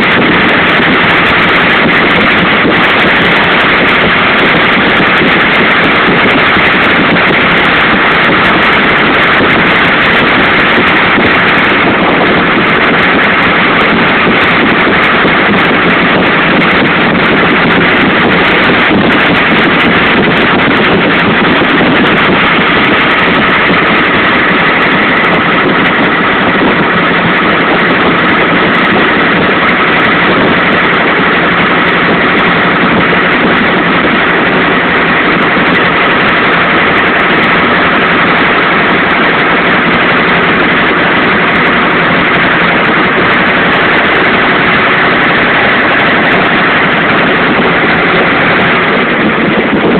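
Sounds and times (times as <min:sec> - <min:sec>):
boat engine droning: 0:00.0 - 0:49.9.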